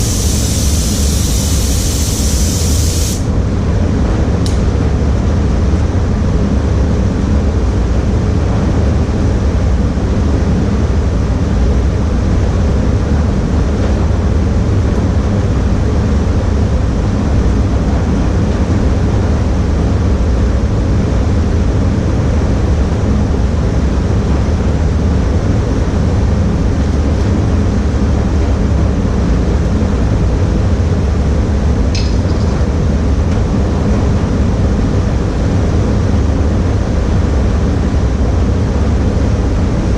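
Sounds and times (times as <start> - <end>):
ventilation air rushing: 0.0 - 39.9.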